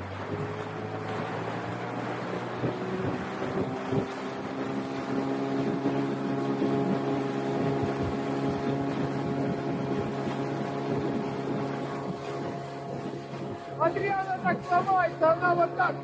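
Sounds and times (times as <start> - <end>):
motorboat engine running: 0.0 - 16.0
water and wind hissing: 0.0 - 16.0.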